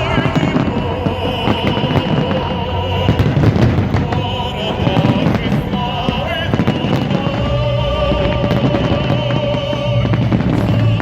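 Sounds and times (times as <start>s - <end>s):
fireworks bursting and crackling: 0.0s - 11.0s
loud music: 0.0s - 11.0s.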